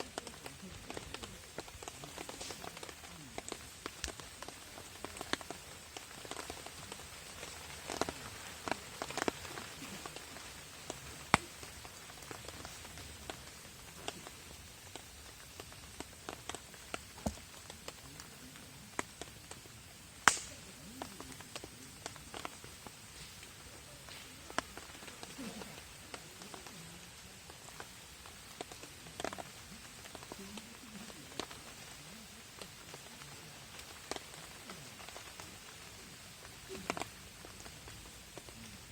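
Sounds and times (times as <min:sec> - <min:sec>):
sharp pops: 0:00.0 - 0:31.8
rain on a tarp: 0:00.0 - 0:38.9
wood fire crackling: 0:00.0 - 0:38.9.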